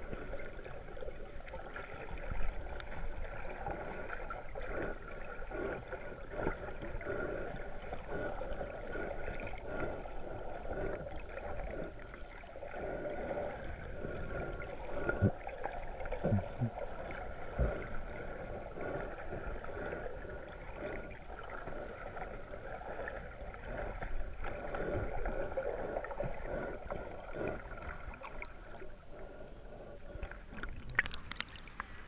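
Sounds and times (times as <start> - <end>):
muffled underwater sloshing: 0.0 - 32.0.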